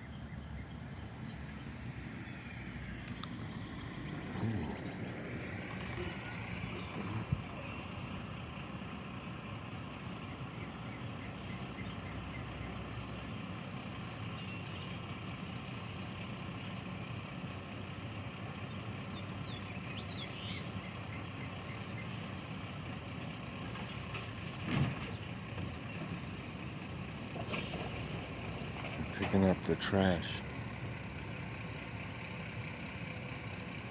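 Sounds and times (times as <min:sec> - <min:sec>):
brakes squealing: 0:00.0 - 0:17.6, 0:18.4 - 0:33.9
garbage truck engine rumble: 0:00.1 - 0:33.9.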